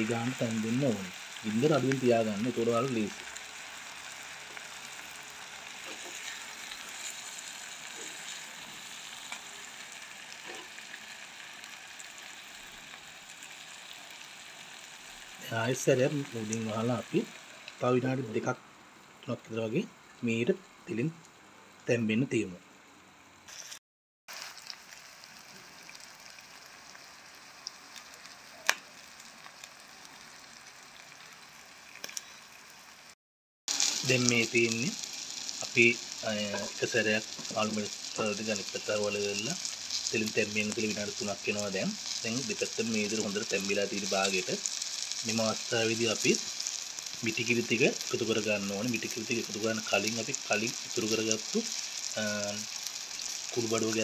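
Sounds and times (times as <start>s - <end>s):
peppers sizzling in oil: 0.0s - 18.5s, 23.5s - 54.0s.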